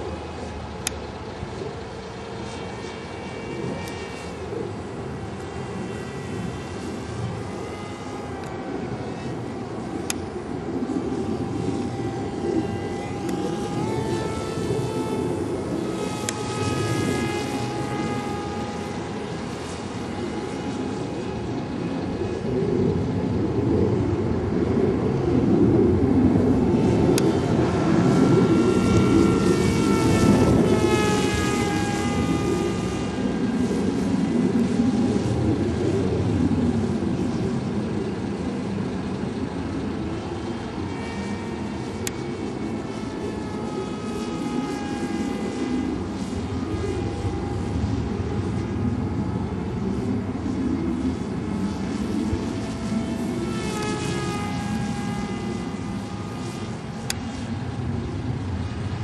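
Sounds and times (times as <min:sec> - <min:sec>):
low rushing noise: 0:00.0 - 0:59.0
model plane motor whine: 0:00.0 - 0:59.0
steady low rumble: 0:00.0 - 0:59.0.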